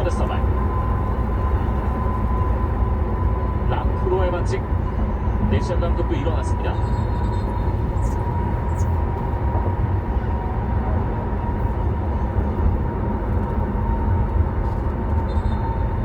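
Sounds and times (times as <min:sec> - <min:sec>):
car engine running: 0:00.0 - 0:16.0
tyre and road noise: 0:00.0 - 0:16.0.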